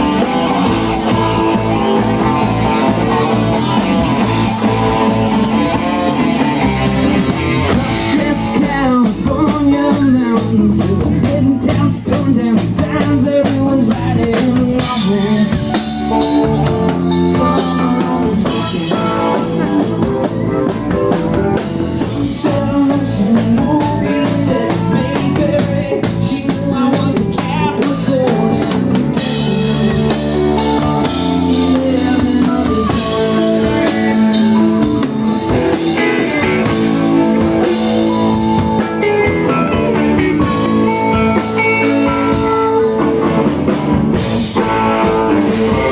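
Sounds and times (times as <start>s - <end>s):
drum kit beat: 0.0s - 45.9s
electric guitar: 0.0s - 45.9s.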